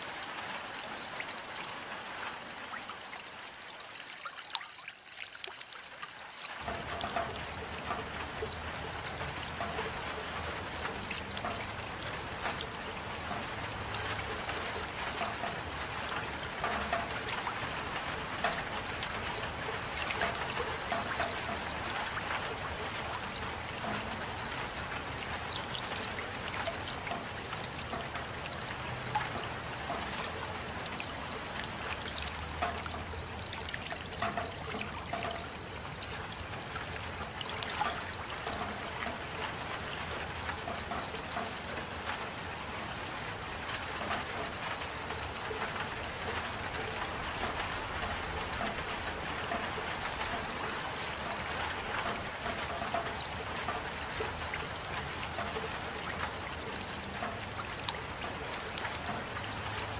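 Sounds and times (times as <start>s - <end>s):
rain drops ticking: 0.0s - 59.9s
water trickling: 0.0s - 59.9s.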